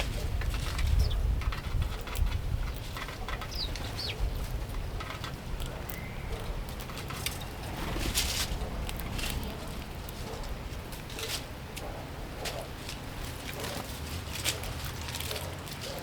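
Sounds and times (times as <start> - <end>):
steady low rumble: 0.0 - 13.4
sparrows chirping: 0.0 - 13.8.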